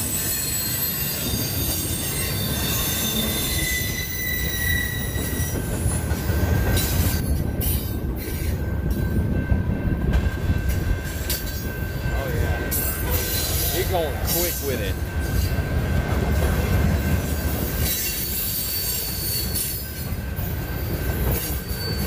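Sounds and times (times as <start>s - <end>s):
steel wheels squealing: 0.0s - 9.2s, 11.0s - 22.0s.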